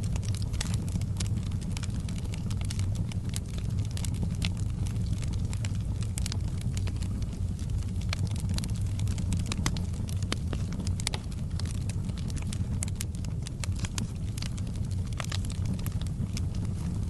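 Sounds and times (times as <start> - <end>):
fire crackling: 0.0 - 17.0
low rumble of fire: 0.0 - 17.0.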